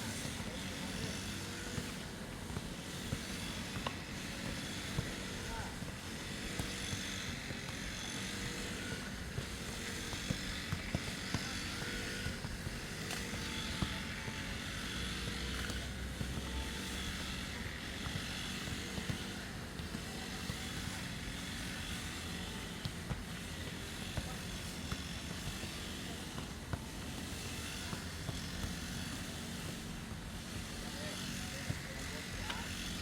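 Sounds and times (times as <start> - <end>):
grass cutter engine running: 0.0 - 33.0.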